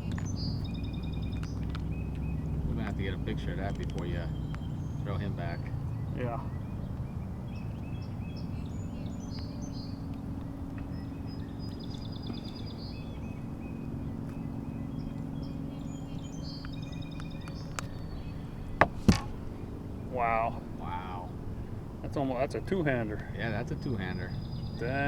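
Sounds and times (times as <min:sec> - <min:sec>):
small birds chirping and trilling: 0:00.0 - 0:25.0
steady low hum: 0:00.0 - 0:25.0.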